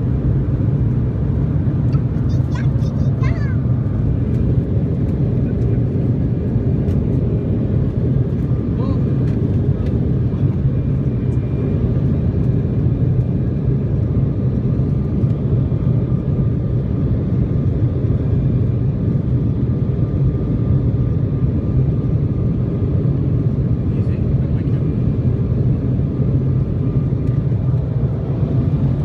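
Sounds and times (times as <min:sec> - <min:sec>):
jet engine rumble in cabin: 0:00.0 - 0:29.0.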